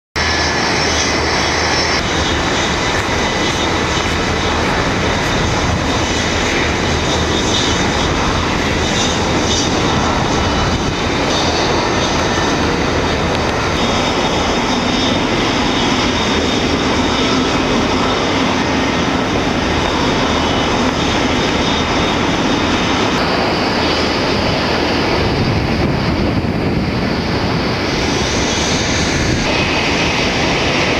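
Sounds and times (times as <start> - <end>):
jet engines running: 0.2 - 30.9.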